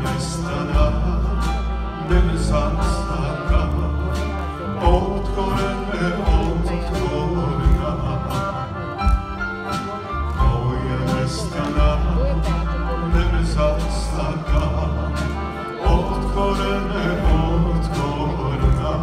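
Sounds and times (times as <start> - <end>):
man singing into a microphone: 0.0 - 9.2, 10.3 - 19.0
live band playing: 0.0 - 19.0.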